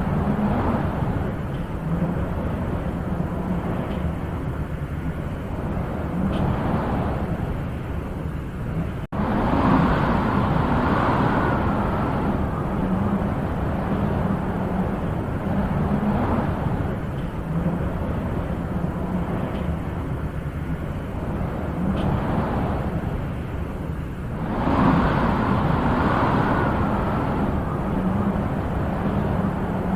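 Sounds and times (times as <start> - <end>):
wind blowing in gusts: 0.0 - 29.9.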